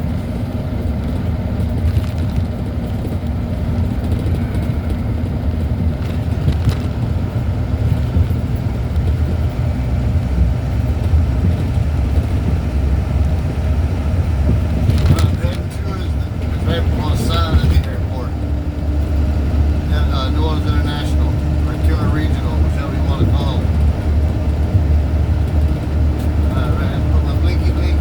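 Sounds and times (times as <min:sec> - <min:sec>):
faint engine drone: 0:00.0 - 0:28.0
vehicle road noise rumble: 0:00.0 - 0:28.0.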